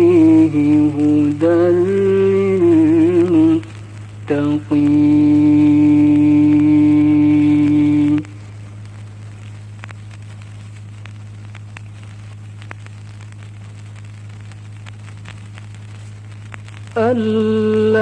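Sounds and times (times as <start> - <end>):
faint crackles and clicks: 0.0 - 18.0
low hum: 0.0 - 18.0.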